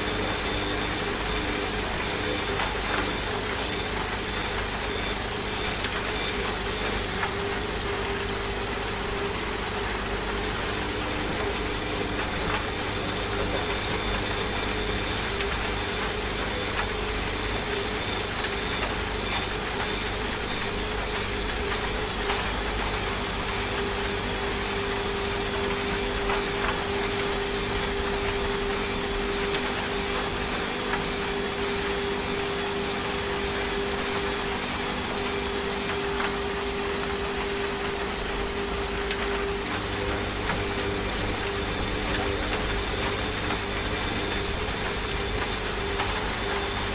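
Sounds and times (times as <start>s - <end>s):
rain hissing: 0.0s - 46.9s
washing machine motor hum: 0.0s - 46.9s.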